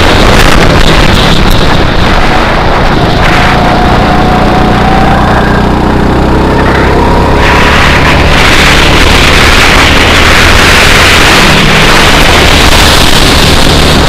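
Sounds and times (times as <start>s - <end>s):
wind hiss over microphone: 0.0s - 5.0s, 5.6s - 14.0s
go-kart engine running: 0.0s - 14.0s.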